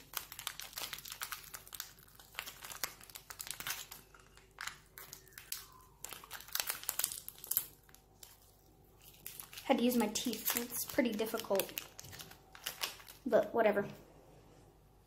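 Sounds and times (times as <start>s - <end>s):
packet crinkling and tearing: 0.0s - 13.5s.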